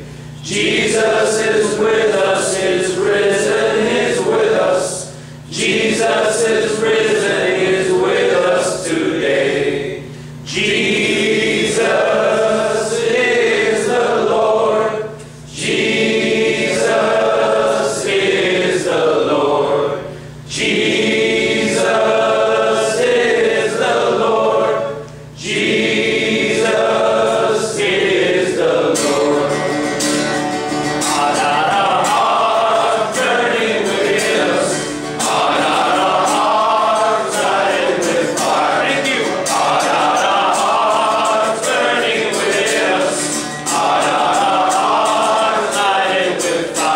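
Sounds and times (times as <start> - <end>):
acoustic guitar: 0.0 - 46.9
men singing together: 0.4 - 30.2, 31.0 - 46.9.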